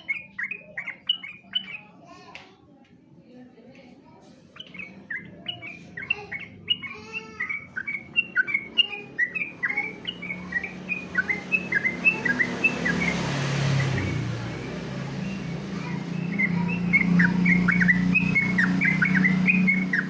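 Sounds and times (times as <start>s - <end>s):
bird whistling song: 0.0s - 2.0s, 4.5s - 20.0s.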